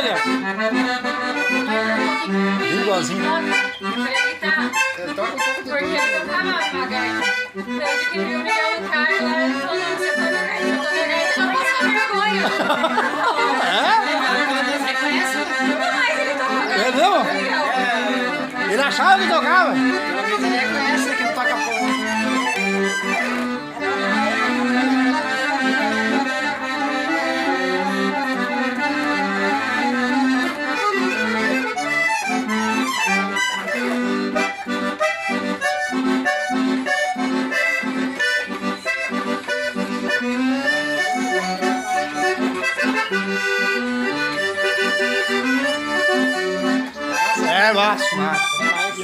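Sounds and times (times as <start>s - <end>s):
accordion playing a tune: 0.0s - 49.0s.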